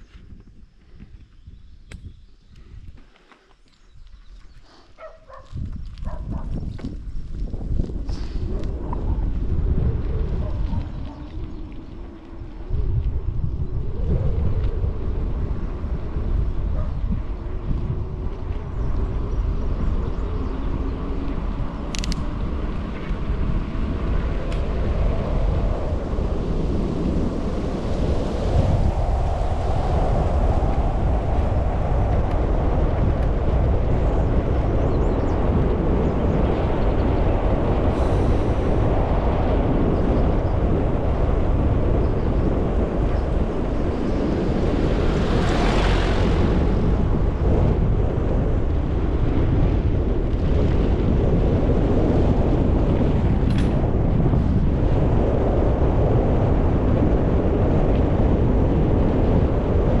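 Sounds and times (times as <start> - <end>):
wind buffeting microphone: 0.0 - 60.0.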